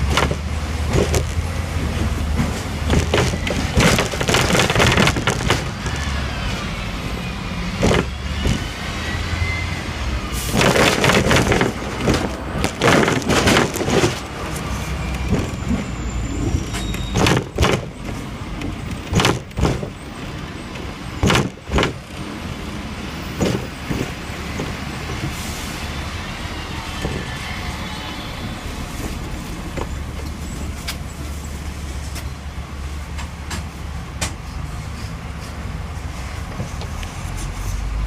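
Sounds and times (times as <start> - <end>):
tram wheels clacking: 0.0 - 9.1, 9.8 - 31.2
tram rumbling on track: 0.0 - 38.0.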